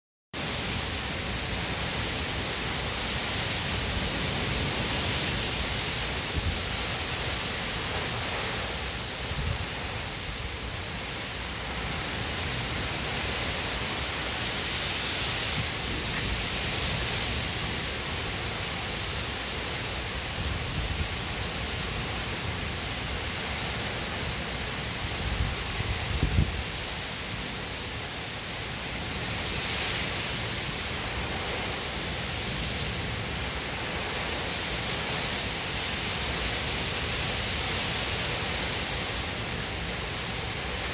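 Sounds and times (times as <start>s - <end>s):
heavy rain on pavement and cars: 0.4s - 40.9s.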